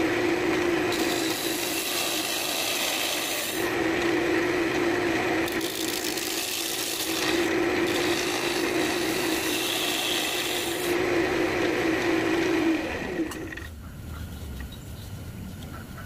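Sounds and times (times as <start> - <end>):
turning tool scraping wood: 0.0 - 13.7
wood lathe humming: 0.0 - 13.7.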